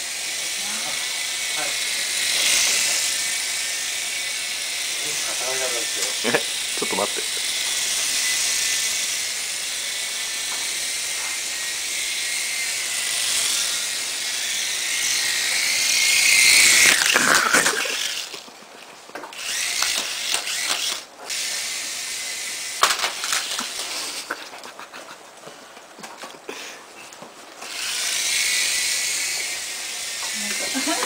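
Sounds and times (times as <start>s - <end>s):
toy helicopter motor whirring: 0.0s - 18.5s, 19.3s - 24.4s, 27.6s - 31.0s.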